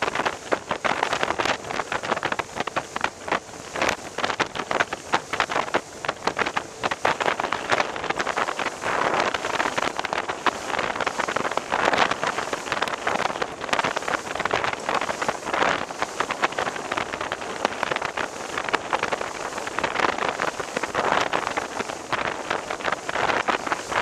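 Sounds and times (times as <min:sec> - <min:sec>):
water splashing against boat: 0:00.0 - 0:24.0
wind buffeting microphone: 0:00.0 - 0:24.0.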